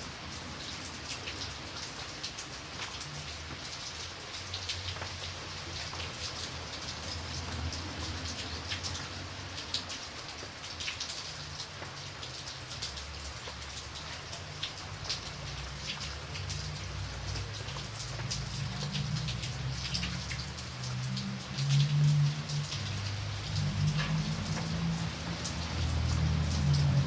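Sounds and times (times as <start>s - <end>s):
rain hiss: 0.0s - 27.0s
raindrops pattering: 0.0s - 27.0s.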